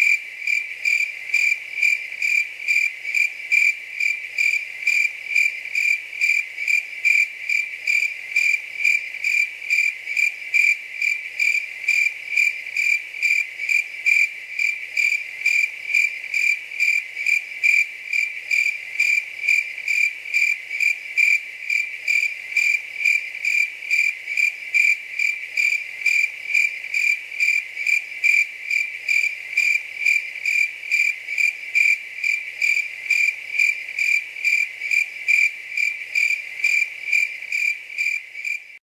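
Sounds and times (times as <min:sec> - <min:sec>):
cricket chirping: 0:00.0 - 0:38.8.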